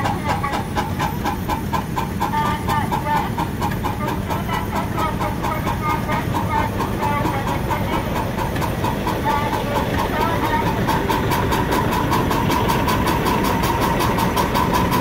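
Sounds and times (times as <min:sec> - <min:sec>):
steam engine exhaust beating: 0:00.0 - 0:15.0.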